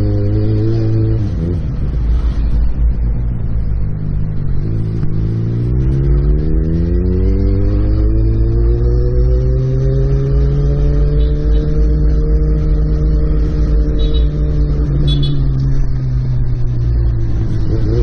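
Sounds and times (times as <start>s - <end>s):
motorcycle engine accelerating: 3.0s - 18.0s.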